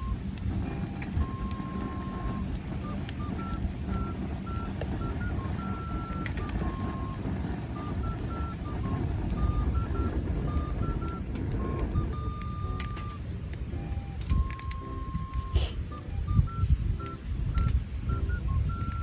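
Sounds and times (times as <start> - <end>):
beep-like electronic melody: 0.0 - 19.0
low steady rumble: 0.0 - 19.0
wood fire crackling and popping: 0.0 - 19.0.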